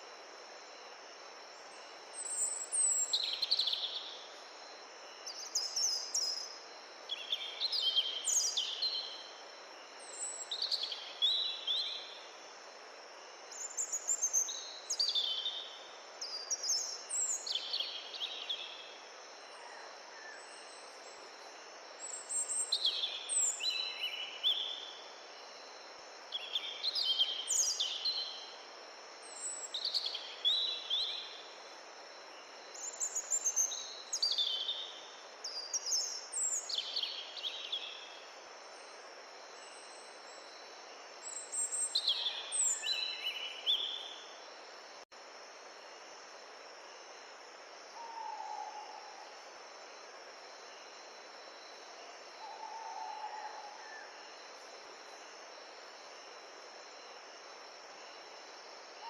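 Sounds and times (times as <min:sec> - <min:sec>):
steady background hiss: 0:00.0 - 0:59.0
songbird chirping: 0:01.4 - 0:59.0.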